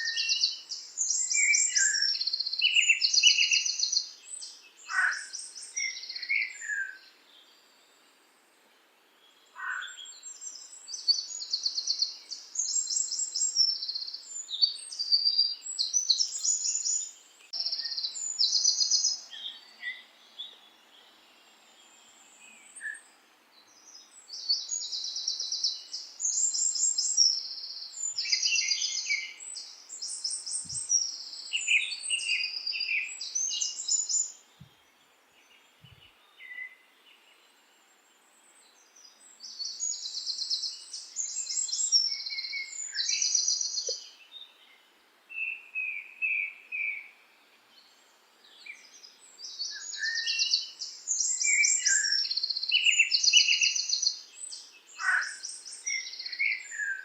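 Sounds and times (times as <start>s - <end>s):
songbird trilling and chirping: 0.0s - 7.6s, 9.5s - 23.0s, 23.6s - 34.7s, 35.4s - 36.8s, 38.7s - 47.1s, 47.8s - 57.0s.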